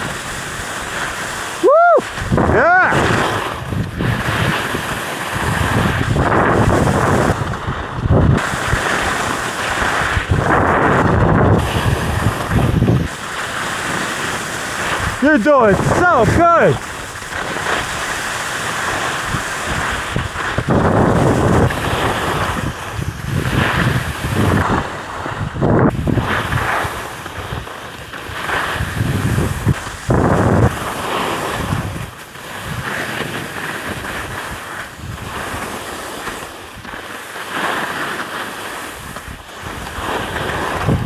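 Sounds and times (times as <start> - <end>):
wind on microphone: 0.0 - 37.0, 37.8 - 41.0
skis scraping over snow: 0.0 - 41.0.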